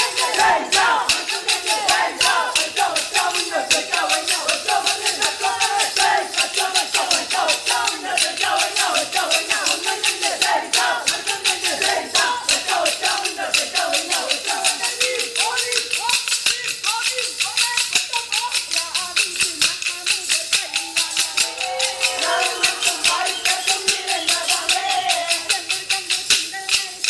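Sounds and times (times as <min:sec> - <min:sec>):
voices singing: 0:00.0 - 0:27.0
wooden sticks clacking: 0:00.0 - 0:27.0.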